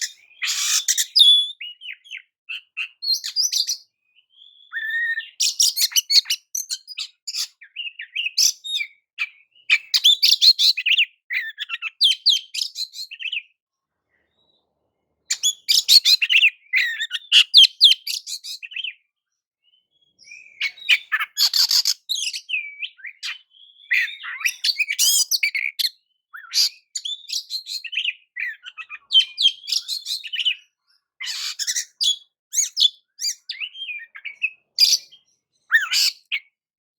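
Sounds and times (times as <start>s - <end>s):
bird singing whistles and trills: 0.0s - 13.6s, 15.3s - 36.6s.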